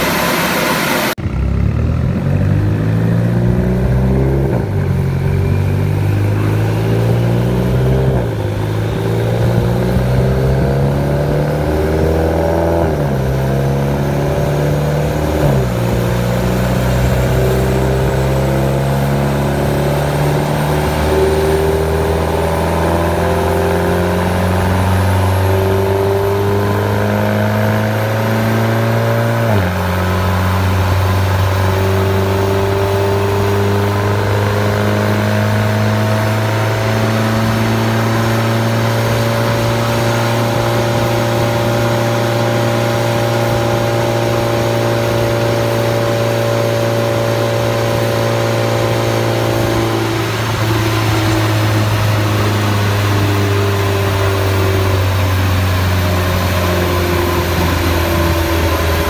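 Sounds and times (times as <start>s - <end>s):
turbocharged car engine revving: 0.0s - 59.0s.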